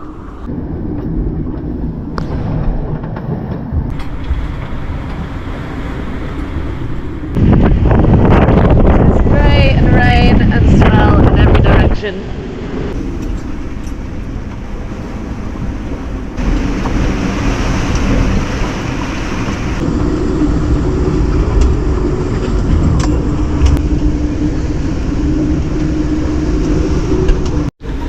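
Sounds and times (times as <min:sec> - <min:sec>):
sea noise: 0:00.0 - 0:28.0
wind rumbling on microphone: 0:00.0 - 0:28.0.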